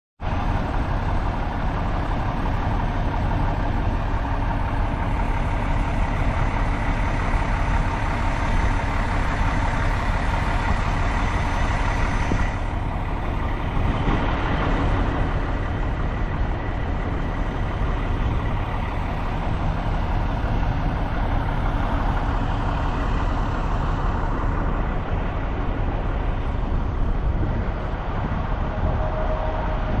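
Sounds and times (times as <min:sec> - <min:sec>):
road noise: 0:00.2 - 0:30.0
truck engine hum: 0:00.2 - 0:30.0.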